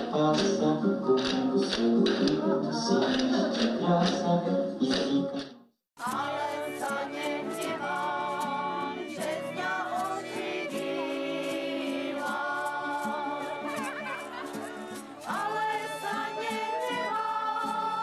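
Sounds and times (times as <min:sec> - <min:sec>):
group of voices singing: 0:00.0 - 0:05.4, 0:06.0 - 0:18.0
acoustic guitar: 0:00.0 - 0:18.0
music: 0:00.0 - 0:18.0.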